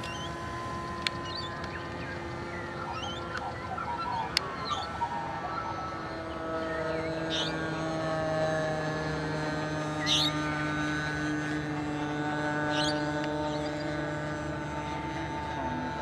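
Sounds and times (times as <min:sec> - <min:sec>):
model airplane propellers whining: 0:00.0 - 0:16.0.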